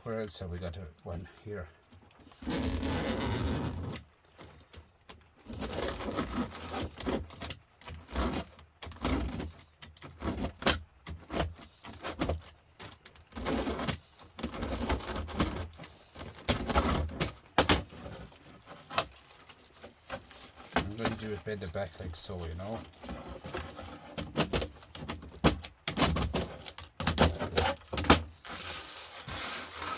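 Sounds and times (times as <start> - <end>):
metal fins scraping and crinkling: 0.0 - 29.9.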